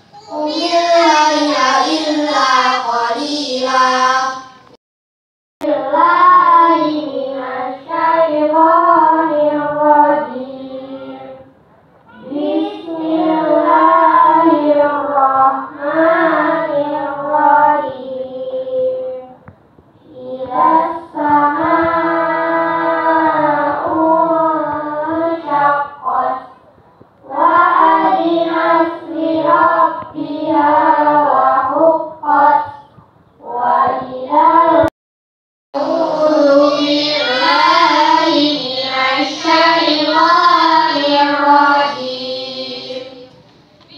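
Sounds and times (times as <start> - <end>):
children chanting in unison: 0.0 - 4.6, 5.6 - 11.5, 12.1 - 19.4, 20.0 - 34.9, 35.8 - 43.9.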